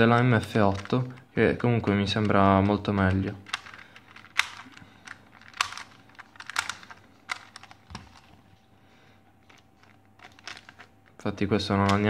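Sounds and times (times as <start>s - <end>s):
plastic puzzle layers clicking: 0.0s - 8.4s, 9.5s - 10.9s, 11.7s - 12.0s.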